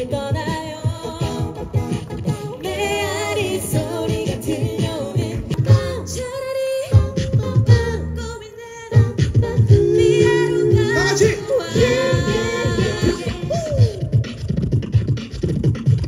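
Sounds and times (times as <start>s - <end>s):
mixed voices singing a cappella: 0.0s - 8.3s, 8.9s - 14.2s
beatboxed rhythm: 0.0s - 16.0s.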